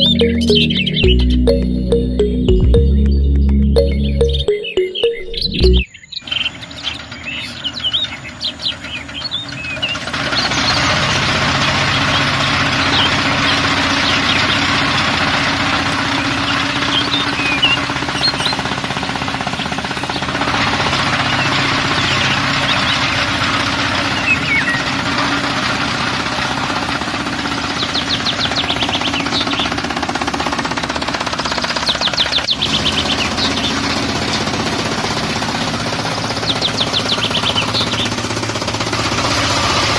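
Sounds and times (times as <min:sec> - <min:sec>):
birdsong: 0:00.0 - 0:39.0
small motor rattling and knocking: 0:06.6 - 0:39.9.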